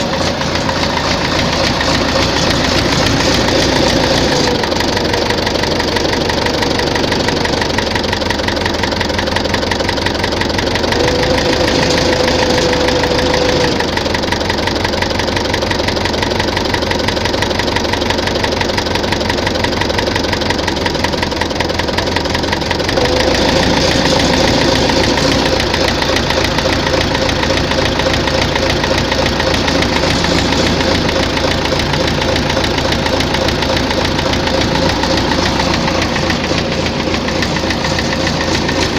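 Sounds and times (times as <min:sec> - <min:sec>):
rhythmic engine knock: 0:00.0 - 0:38.9
tractor diesel engine idling: 0:00.0 - 0:38.9.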